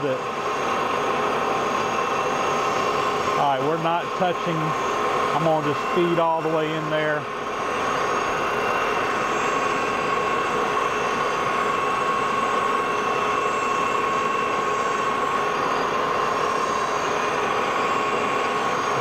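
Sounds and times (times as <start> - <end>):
grinder motor whining: 0.0 - 19.0.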